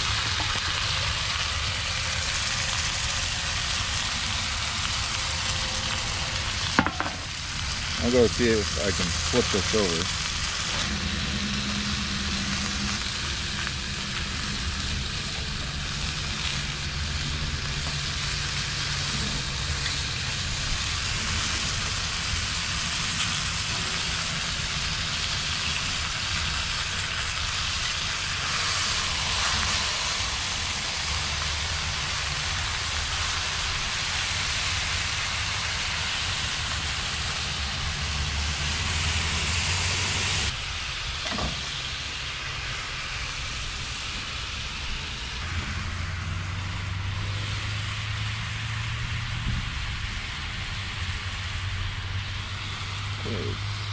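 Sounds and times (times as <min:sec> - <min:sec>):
chicken sizzling in skillet: 0:00.0 - 0:53.9
low burner rumble: 0:00.0 - 0:53.9.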